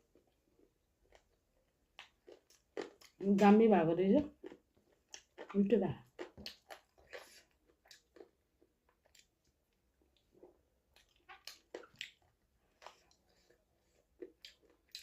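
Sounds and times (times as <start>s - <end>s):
person chewing food: 0.0s - 3.5s, 4.3s - 15.0s.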